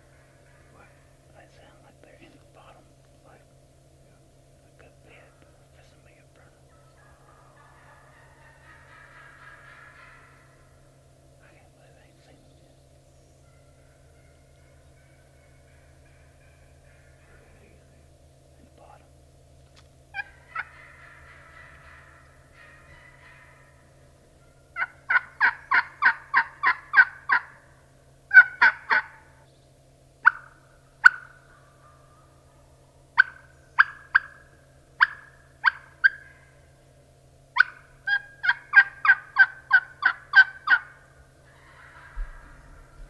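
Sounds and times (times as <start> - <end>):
turkey hen yelping: 0.0 - 1.5, 5.0 - 11.2, 13.3 - 18.1, 20.0 - 29.6, 30.2 - 43.0.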